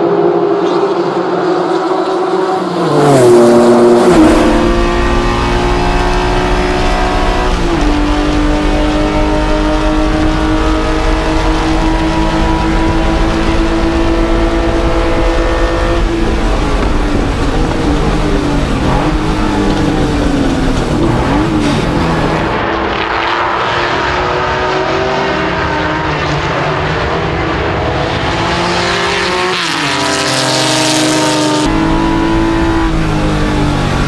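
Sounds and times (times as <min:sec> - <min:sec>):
racing car engine under load: 0:00.0 - 0:34.0.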